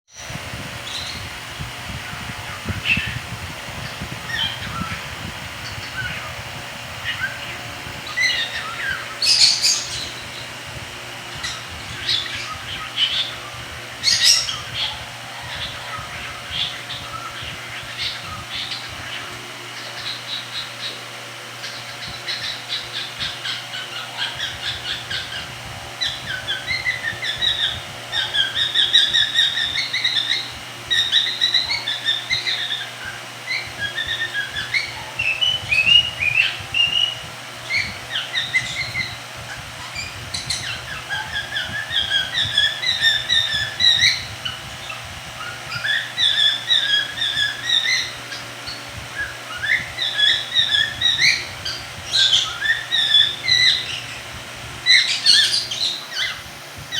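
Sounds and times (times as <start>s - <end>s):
cockatiel chirping and whistling: 7.0s - 10.5s, 11.3s - 21.0s, 21.6s - 54.2s, 54.8s - 56.4s.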